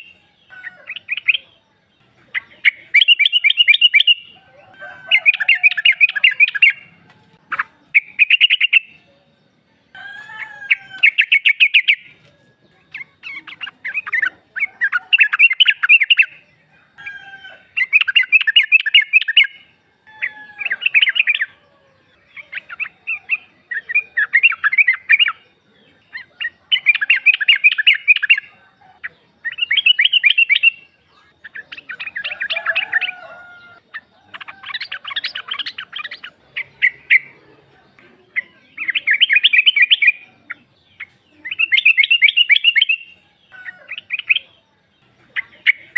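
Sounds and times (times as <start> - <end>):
bird chattering calls: 0.0 - 4.4, 5.0 - 9.0, 10.3 - 12.2, 12.8 - 16.4, 17.7 - 45.9.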